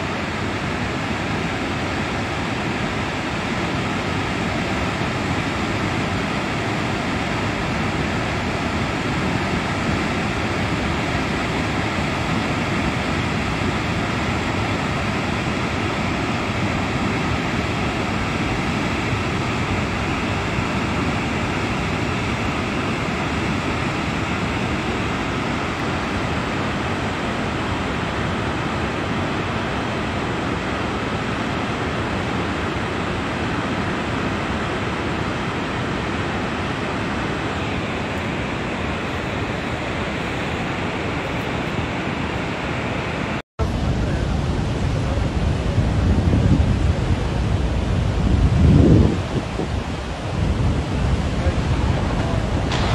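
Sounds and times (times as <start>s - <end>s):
flood water rushing: 0.0s - 52.9s.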